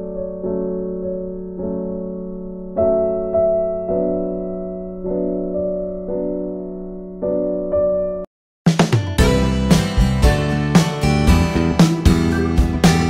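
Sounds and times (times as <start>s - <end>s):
gentle keyboard chords: 0.0s - 8.3s, 9.2s - 13.0s.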